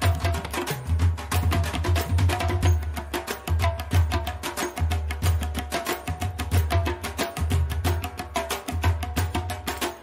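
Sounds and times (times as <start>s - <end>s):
music with percussion beat and bass: 0.0s - 10.0s.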